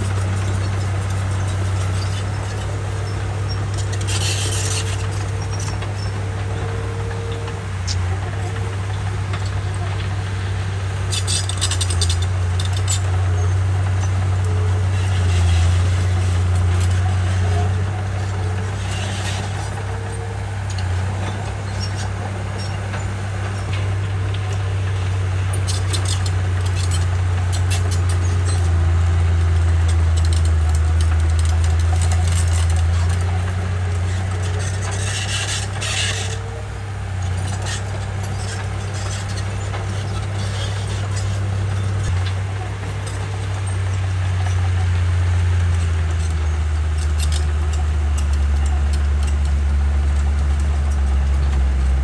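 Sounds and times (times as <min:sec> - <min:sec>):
bulldozer diesel engine droning: 0:00.0 - 0:52.0.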